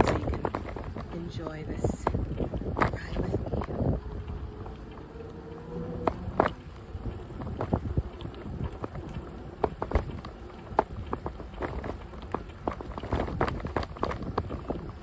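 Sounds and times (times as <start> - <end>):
bike clicks and rattles: 0.0 - 5.1, 5.9 - 15.0
bicycle tyre rumble: 0.0 - 15.0.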